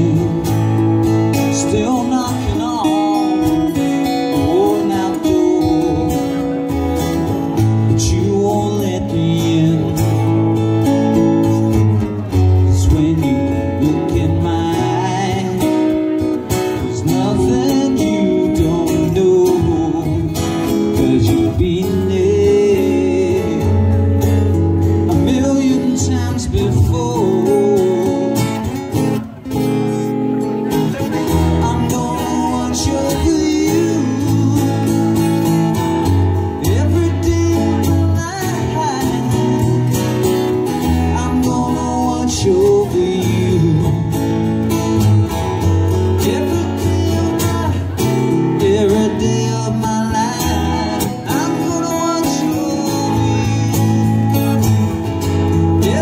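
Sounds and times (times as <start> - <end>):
acoustic guitars strummed: 0.0 - 56.0
man singing: 0.0 - 56.0.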